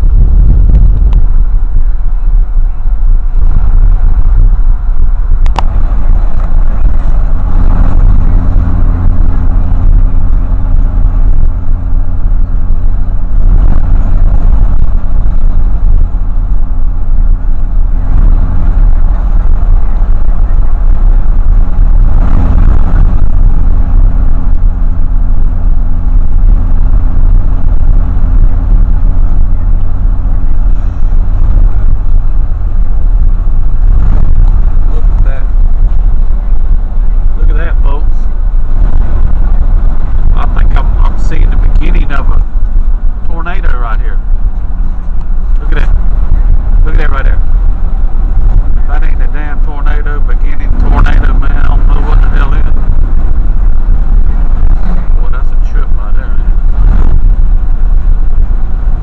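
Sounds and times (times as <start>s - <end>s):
engine drone: 0.0s - 59.0s
road noise rumble: 0.0s - 59.0s.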